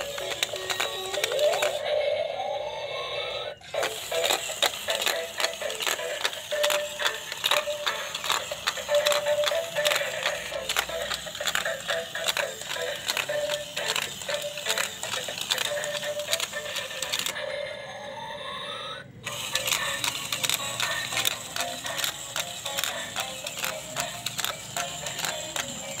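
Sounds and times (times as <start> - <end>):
gear motor clicking: 0.0 - 1.8, 3.6 - 17.4, 19.2 - 26.0
tinny electronic toy tune: 0.0 - 26.0.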